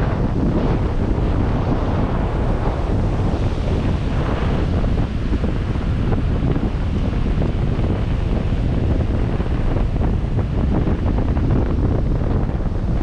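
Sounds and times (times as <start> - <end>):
vehicle driving on sand: 0.0 - 13.0
wind buffeting microphone: 0.0 - 13.0.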